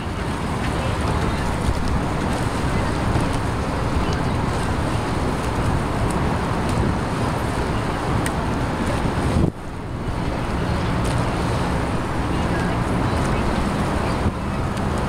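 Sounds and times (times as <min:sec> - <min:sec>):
motorboat under way: 0:00.0 - 0:15.0.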